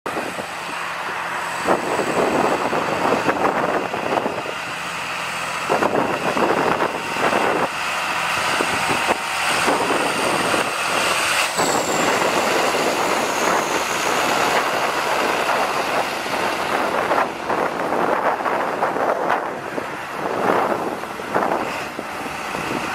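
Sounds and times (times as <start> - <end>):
tractor diesel engine running: 0.1 - 22.9.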